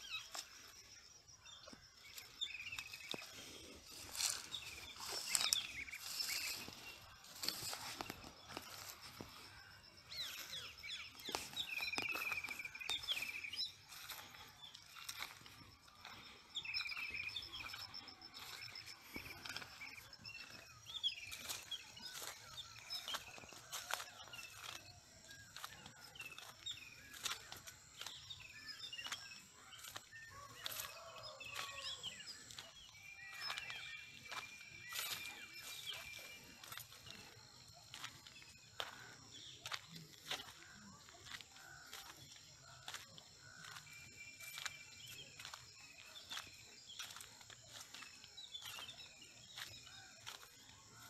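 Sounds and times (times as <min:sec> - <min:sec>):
birds chirping: 0:00.0 - 0:51.0
footsteps on soil and grass: 0:00.0 - 0:51.0.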